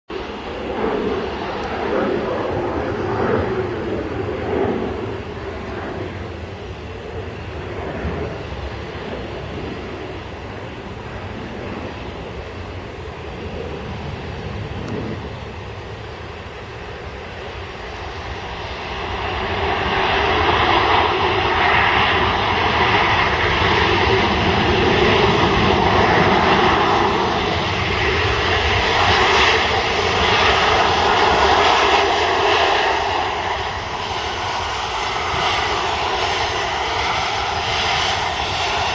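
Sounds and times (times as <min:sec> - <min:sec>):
jet engines roaring: 0:00.1 - 0:38.9.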